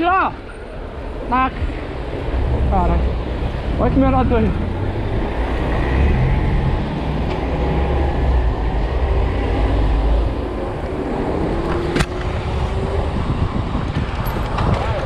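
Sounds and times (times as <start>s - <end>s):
car traffic: 0.0s - 15.0s
wind rumbling on microphone: 0.9s - 15.0s.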